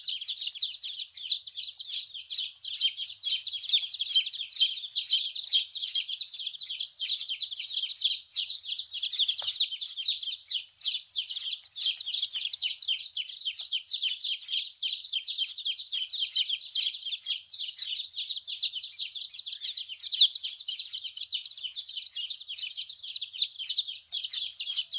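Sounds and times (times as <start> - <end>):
chicks peeping: 0.0 - 24.9.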